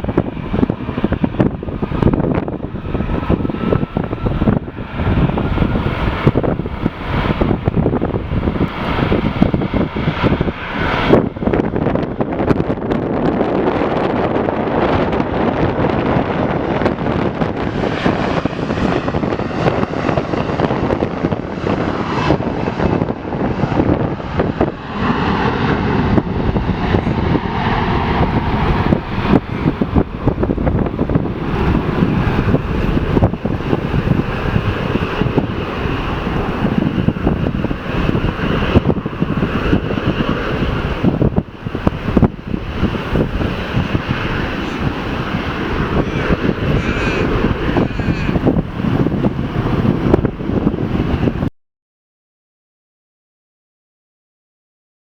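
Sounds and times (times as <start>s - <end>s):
jet engines at takeoff: 0.0s - 51.5s
wind buffeting microphone: 0.0s - 51.5s.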